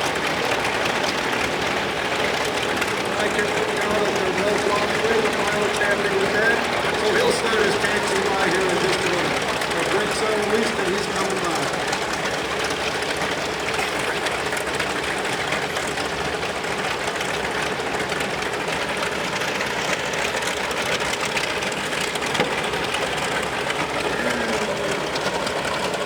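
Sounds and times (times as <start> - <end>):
piston aircraft engines running: 0.0 - 26.0.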